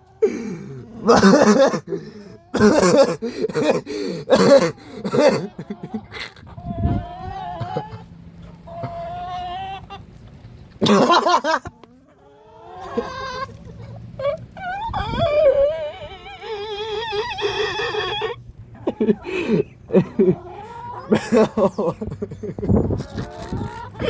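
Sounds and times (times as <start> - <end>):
chickens calling: 0.0 - 24.0.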